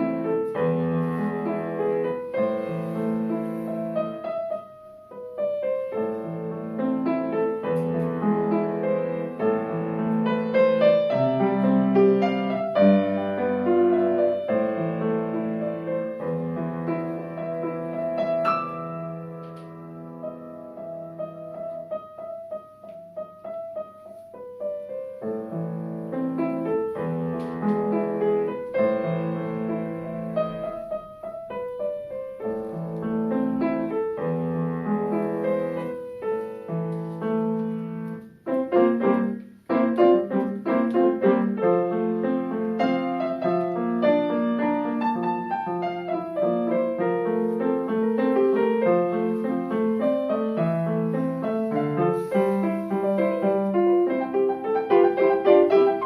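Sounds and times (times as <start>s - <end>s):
solo piano classical piece: 0.0s - 56.0s.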